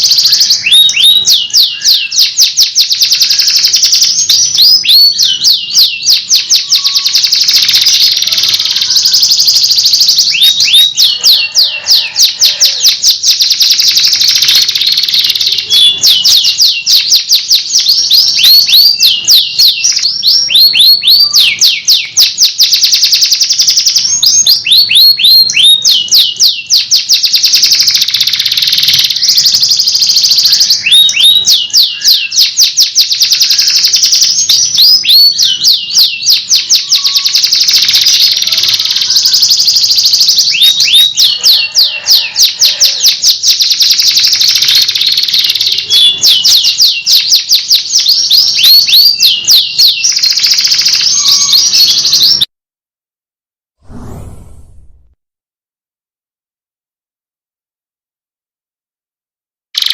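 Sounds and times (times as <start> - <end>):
canary singing trills: 0.0 - 52.5.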